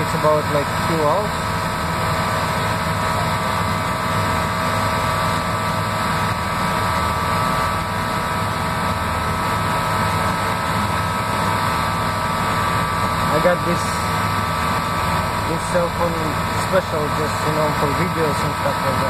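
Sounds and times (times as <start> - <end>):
plane engine droning: 0.0 - 19.0.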